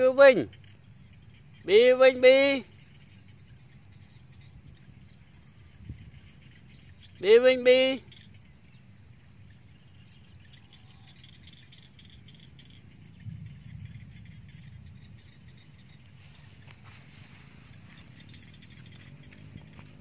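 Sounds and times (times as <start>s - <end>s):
faint chirps: 0.0s - 20.0s
low wind rumble on microphone: 2.7s - 7.2s, 8.1s - 20.0s.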